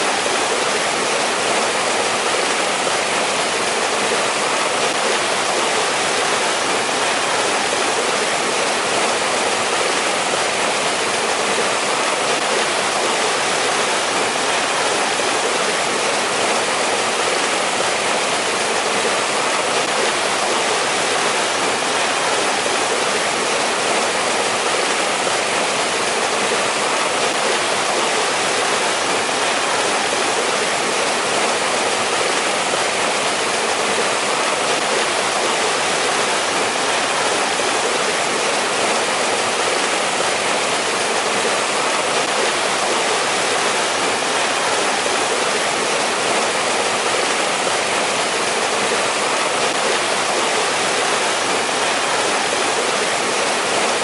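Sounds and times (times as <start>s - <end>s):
stream splashing over rocks: 0.0s - 54.0s.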